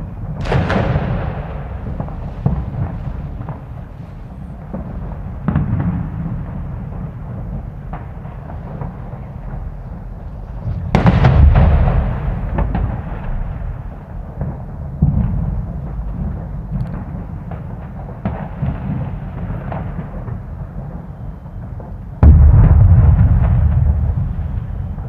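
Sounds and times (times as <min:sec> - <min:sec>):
big firework boom: 0:00.0 - 0:25.0
distant fireworks rumbling: 0:00.0 - 0:25.0
firecracker sharp cracks: 0:00.0 - 0:25.0.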